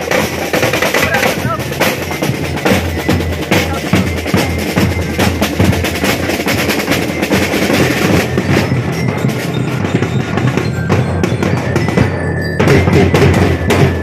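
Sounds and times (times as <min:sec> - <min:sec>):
bass drums: 0:00.0 - 0:14.0
snare drums: 0:00.0 - 0:14.0
tenor drums: 0:00.0 - 0:14.0.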